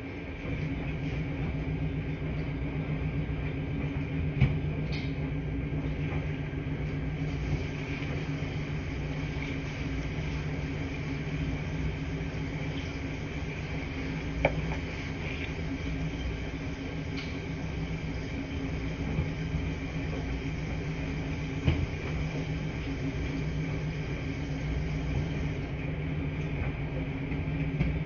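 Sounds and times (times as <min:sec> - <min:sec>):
laundry machines humming: 0:00.0 - 0:28.0.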